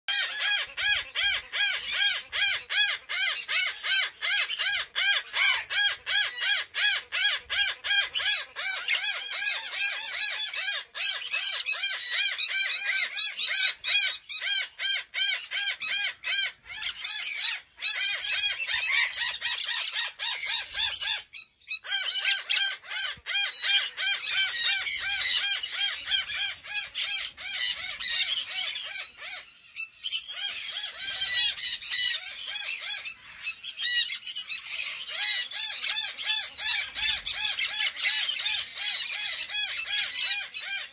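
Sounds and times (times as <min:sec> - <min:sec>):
conures squawking: 0:00.1 - 0:40.9.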